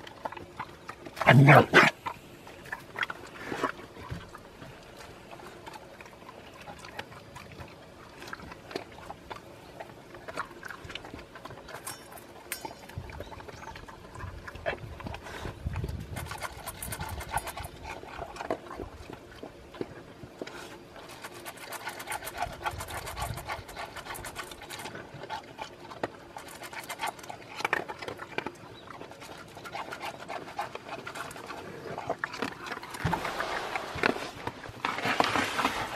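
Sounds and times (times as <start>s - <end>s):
dog crunching kibble: 0.0s - 35.9s.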